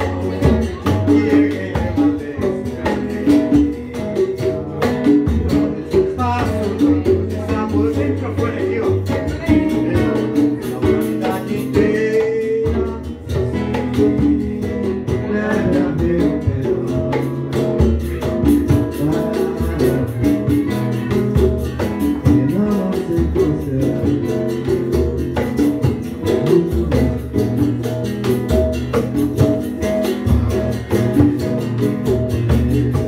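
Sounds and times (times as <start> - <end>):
hand percussion beat: 0.0 - 33.0
live band playing: 0.0 - 33.0.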